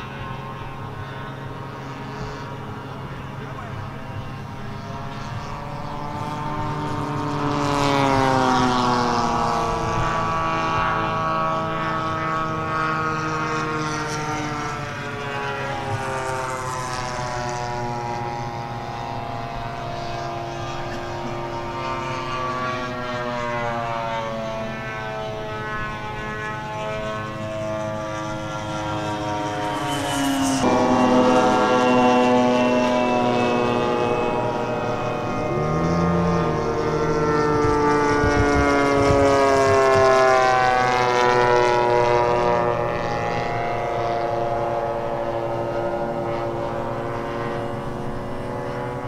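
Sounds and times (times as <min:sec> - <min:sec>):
model airplane engines flying past: 0:00.0 - 0:49.0.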